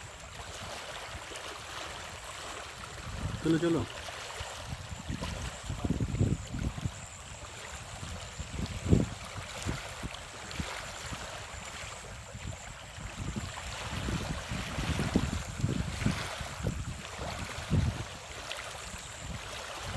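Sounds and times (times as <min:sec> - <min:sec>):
waves lapping on pebbles: 0:00.0 - 0:19.9
wind buffeting microphone: 0:02.8 - 0:19.9.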